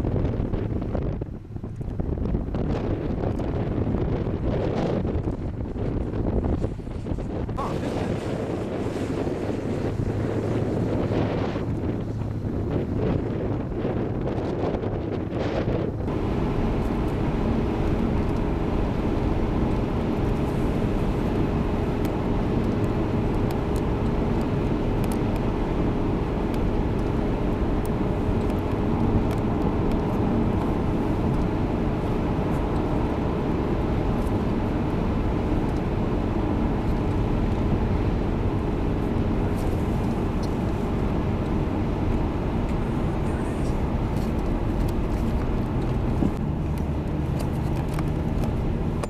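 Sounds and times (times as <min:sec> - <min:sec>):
car road and engine noise: 0:00.0 - 0:49.0.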